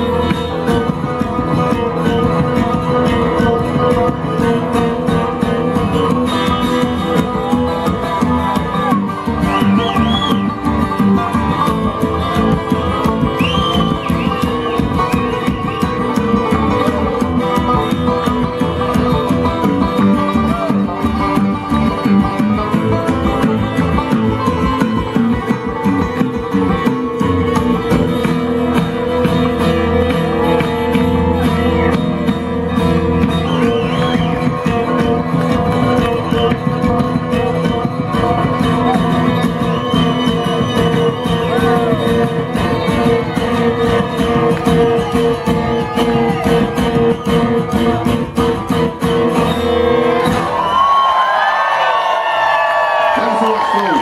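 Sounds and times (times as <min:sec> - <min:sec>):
bluegrass band playing: 0:00.0 - 0:53.0.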